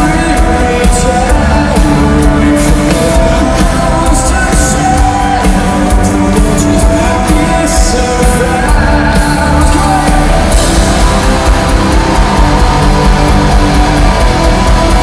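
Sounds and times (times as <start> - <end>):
rock band playing loud: 0.0 - 15.0.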